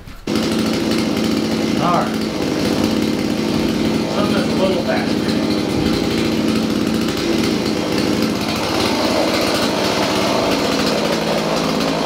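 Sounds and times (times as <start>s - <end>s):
chainsaw engine running: 0.2s - 12.0s.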